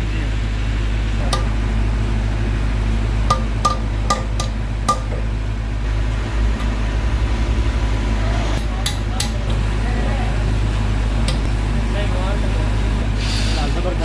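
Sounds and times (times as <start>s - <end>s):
fast low fluttering pulse: 0.0s - 11.8s
steady low machine hum: 0.0s - 14.0s.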